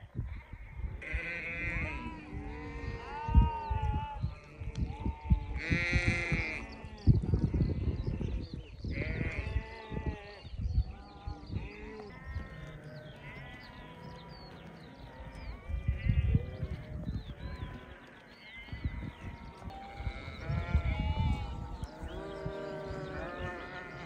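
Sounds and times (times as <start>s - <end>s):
sheep bleating: 0.5s - 7.1s, 8.9s - 24.0s.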